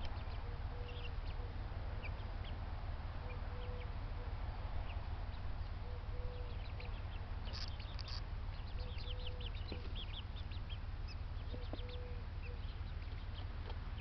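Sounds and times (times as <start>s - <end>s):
flock of birds chirping: 0.0s - 14.0s
lower drawn-out bird calls: 0.0s - 14.0s
steady low rumble: 0.0s - 14.0s.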